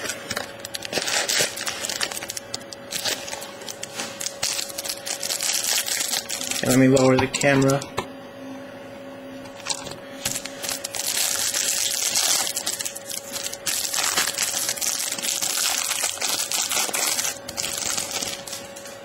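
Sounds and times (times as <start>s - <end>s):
plastic wrapping crinkling: 0.0s - 7.8s, 9.6s - 19.0s.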